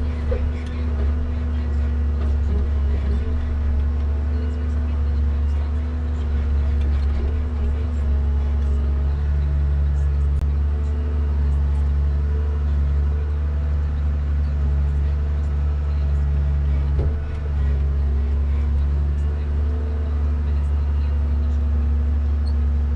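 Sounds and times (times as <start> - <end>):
diesel engine droning: 0.0 - 22.9.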